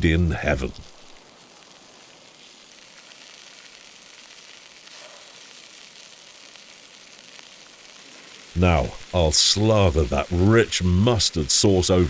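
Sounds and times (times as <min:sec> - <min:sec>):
steaks sizzling on hot stones: 0:00.0 - 0:12.0.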